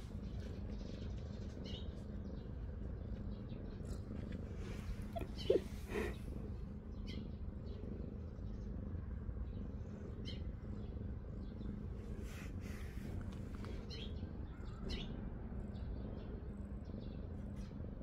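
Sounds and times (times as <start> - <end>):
birds chirping: 0.0 - 18.0
cat purring: 0.0 - 18.0.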